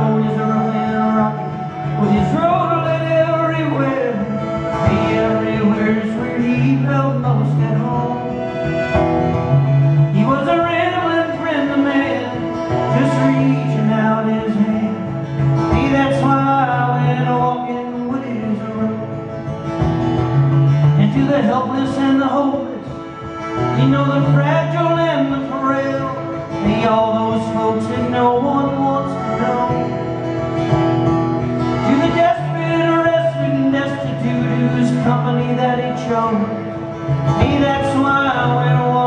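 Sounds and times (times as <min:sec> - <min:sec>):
man singing: 0:00.0 - 0:09.0, 0:09.6 - 0:19.7, 0:20.6 - 0:30.6, 0:31.6 - 0:39.0
strummed acoustic guitar: 0:00.0 - 0:39.0.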